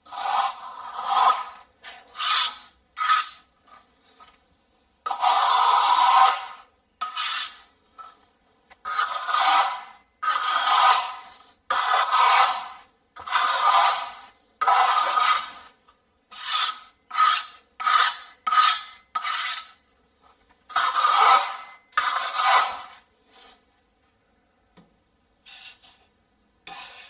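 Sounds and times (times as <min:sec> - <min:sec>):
filling knife scraping wall: 0:00.1 - 0:04.4, 0:05.1 - 0:23.7, 0:25.5 - 0:27.0.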